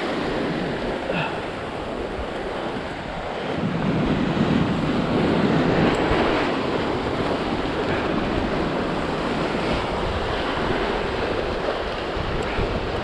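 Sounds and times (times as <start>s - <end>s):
surf breaking on rocks: 0.0s - 13.0s
wind buffeting microphone: 0.0s - 13.0s.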